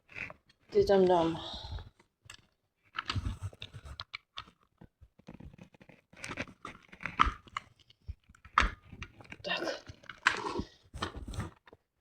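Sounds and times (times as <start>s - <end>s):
plastic parts clicking and knocking: 1.8s - 11.9s.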